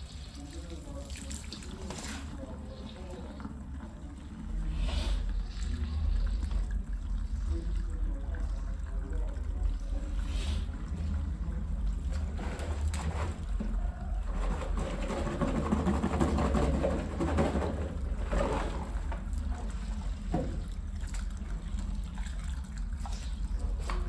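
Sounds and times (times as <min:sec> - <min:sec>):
water running and splashing: 0:00.0 - 0:24.0.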